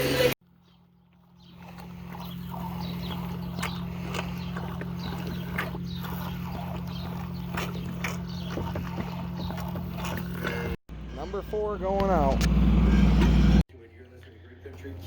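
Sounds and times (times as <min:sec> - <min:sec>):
hooves on concrete floor: 0:00.6 - 0:15.0
low machine hum: 0:00.9 - 0:14.5.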